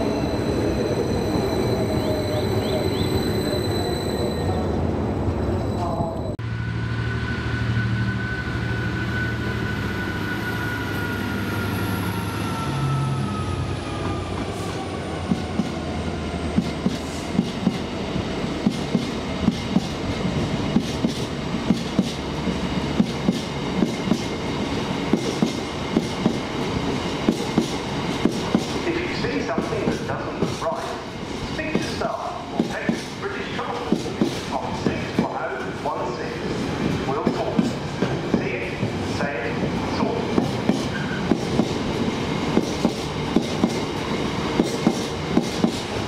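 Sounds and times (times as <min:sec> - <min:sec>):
train passing: 0:00.0 - 0:46.0.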